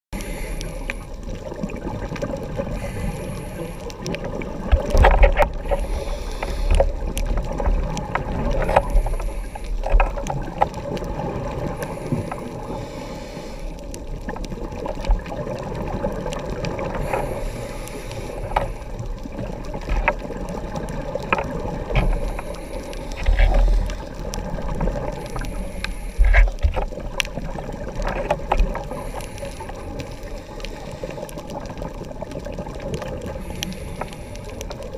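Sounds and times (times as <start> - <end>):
muffled underwater noise: 0.2 - 34.9
regulator bubbles gurgling: 0.2 - 34.9.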